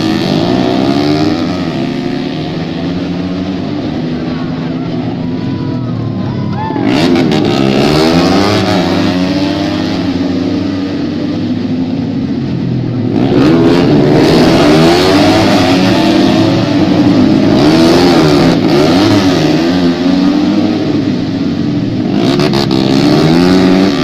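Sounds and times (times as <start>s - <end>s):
racing motorcycles revving: 0.0s - 24.0s.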